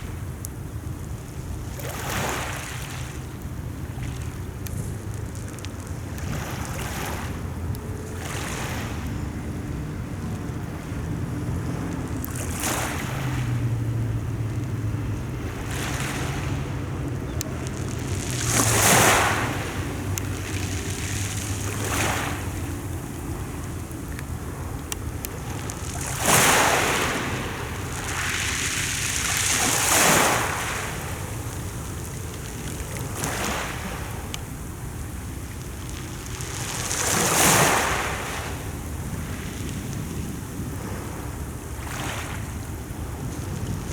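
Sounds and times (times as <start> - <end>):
sea waves washing in: 0.0 - 43.9.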